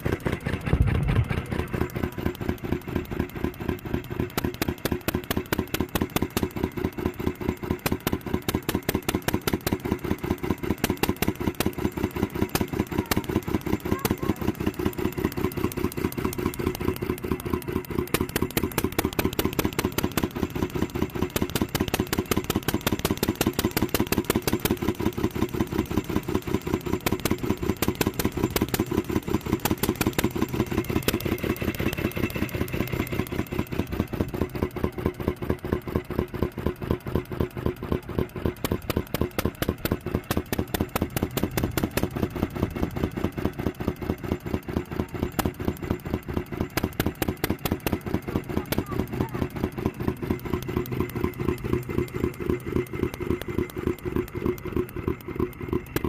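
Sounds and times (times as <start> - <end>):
gas engine clattering: 0.0 - 56.0.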